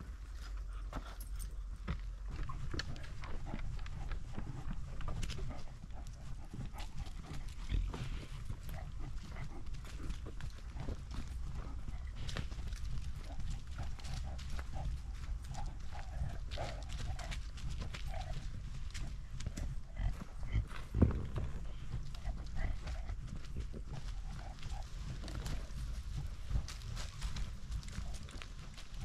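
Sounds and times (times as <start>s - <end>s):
paws crackling on dry leaves: 0.0s - 29.0s
dog breathing: 0.3s - 29.0s.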